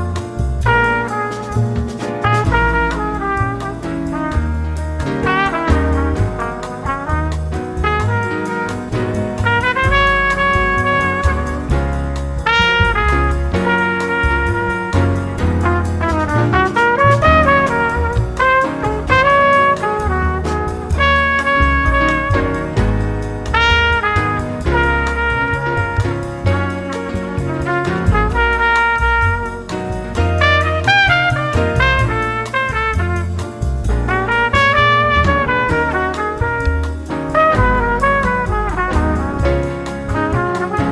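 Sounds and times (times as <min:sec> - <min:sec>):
bass line: 0:00.0 - 0:40.9
brass playing held notes: 0:00.0 - 0:40.9
jazz trumpet lead: 0:00.0 - 0:40.9
steady drum beat: 0:00.0 - 0:40.9.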